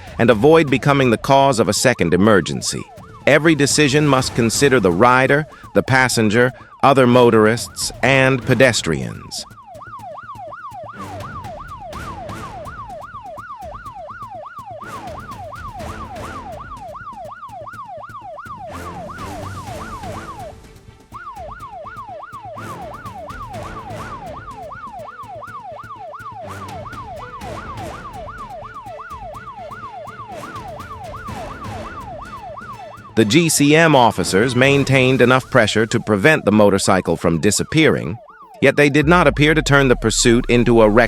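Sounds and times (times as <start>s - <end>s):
police siren yelping: 0.0s - 41.0s.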